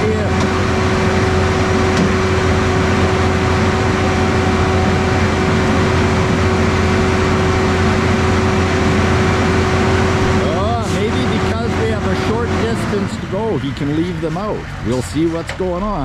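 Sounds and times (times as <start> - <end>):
truck engine humming: 0.0 - 16.0.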